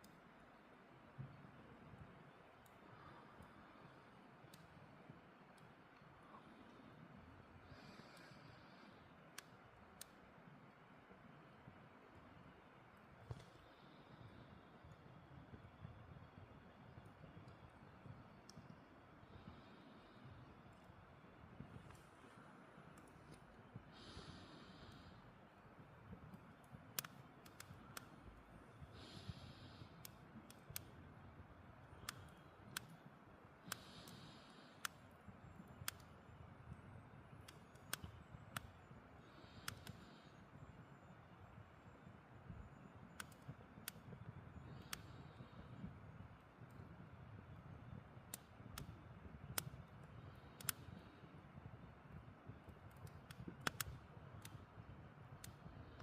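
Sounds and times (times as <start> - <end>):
campfire crackling: 0.0 - 56.0
low rumble of flames: 0.0 - 56.0
low rush of burning logs: 0.0 - 56.0.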